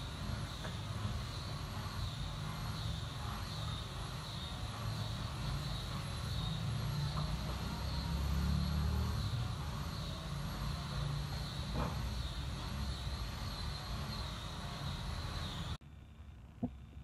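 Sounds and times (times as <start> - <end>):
faint high wavering whine: 0.0 - 17.0.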